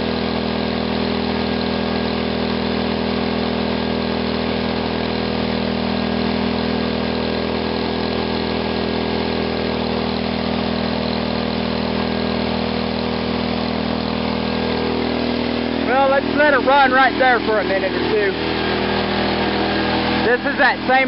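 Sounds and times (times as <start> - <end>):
small engine at high revs: 0.0 - 21.0.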